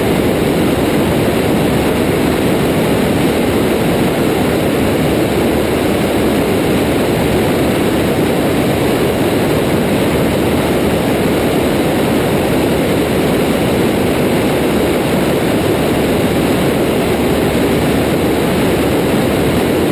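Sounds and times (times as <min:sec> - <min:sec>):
propeller plane engine droning: 0:00.0 - 0:19.9.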